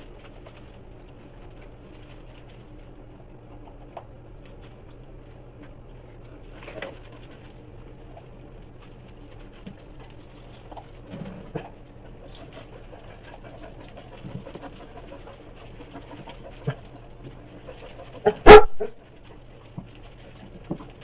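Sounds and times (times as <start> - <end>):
dog crunching kibble: 0.0 - 21.0
steady low hum: 0.0 - 21.0.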